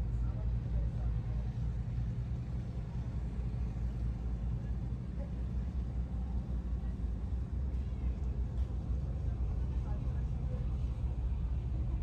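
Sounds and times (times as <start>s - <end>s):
ferry engine rumble: 0.0s - 12.0s.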